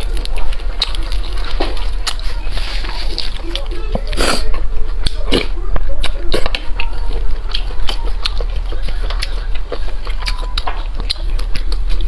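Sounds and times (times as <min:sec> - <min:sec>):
chewing with wet mouth clicks: 0:00.0 - 0:12.0
steady low hum: 0:00.0 - 0:12.0.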